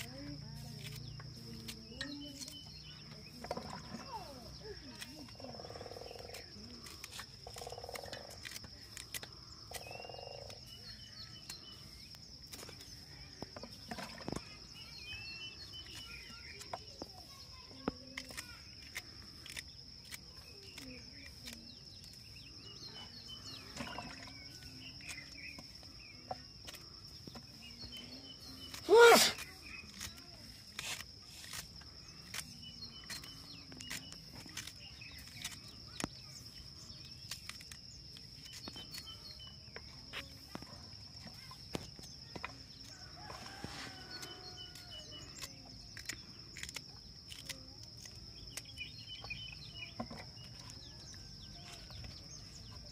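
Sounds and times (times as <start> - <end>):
knife slicing okra pods: 0.0 - 13.8, 14.4 - 23.6, 24.3 - 52.8
faint bird chirps: 0.0 - 52.9
steady high insect whine: 0.0 - 52.9.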